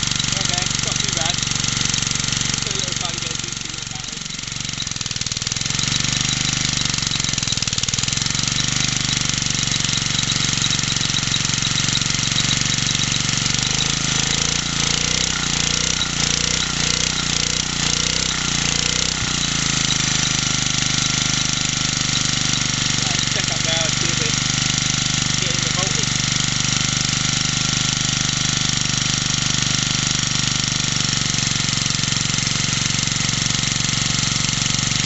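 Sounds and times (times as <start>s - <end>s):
small stationary engine running: 0.0s - 35.0s.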